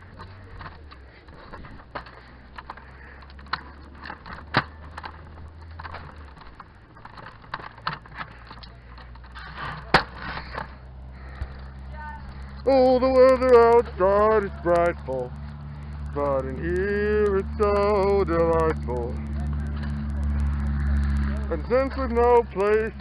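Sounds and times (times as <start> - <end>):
low hum: 0.0 - 23.0
sharp clicks and knocks: 0.0 - 23.0.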